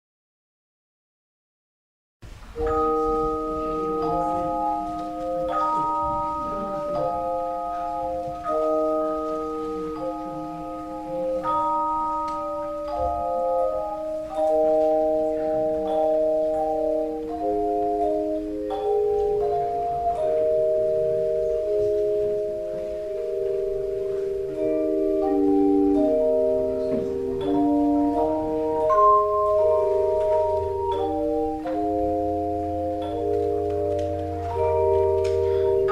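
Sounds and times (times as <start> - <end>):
slow instrumental music: 2.3 - 35.9.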